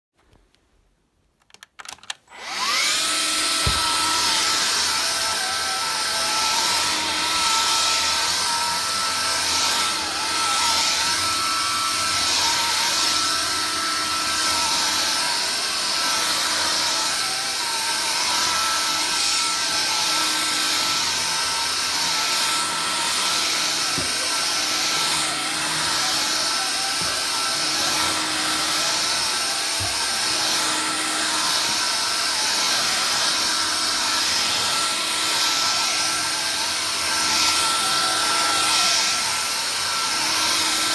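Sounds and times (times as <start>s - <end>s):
vacuum cleaner running: 2.3s - 40.9s.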